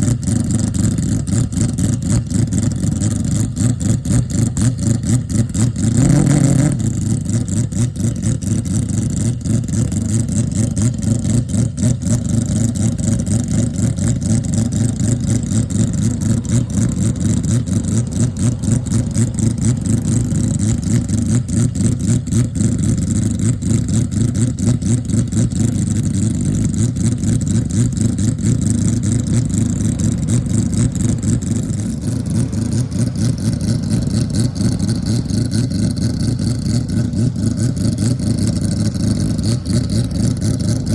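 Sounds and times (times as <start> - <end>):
race car rotary engine running: 0.0 - 40.9.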